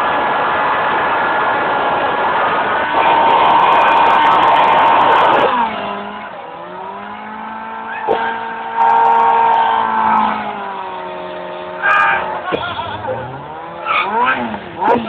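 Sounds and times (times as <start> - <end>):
motorcycle engine revving: 2.0 - 15.0.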